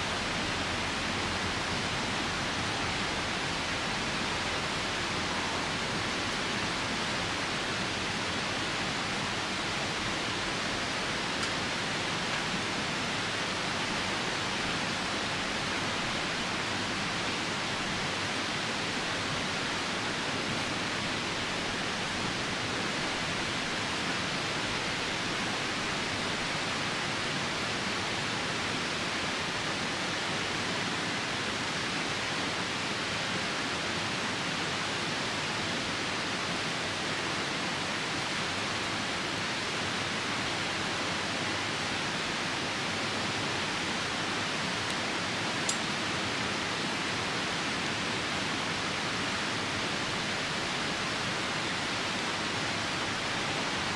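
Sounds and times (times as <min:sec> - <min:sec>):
rain falling: 0:00.0 - 0:29.9, 0:35.2 - 0:53.9
river rushing: 0:00.0 - 0:53.9.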